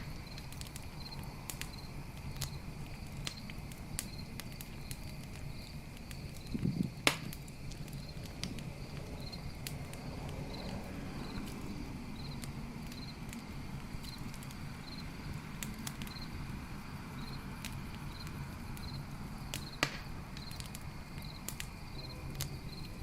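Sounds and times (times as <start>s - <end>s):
campfire crackling: 0.0s - 23.0s
cricket chirping: 0.0s - 23.0s.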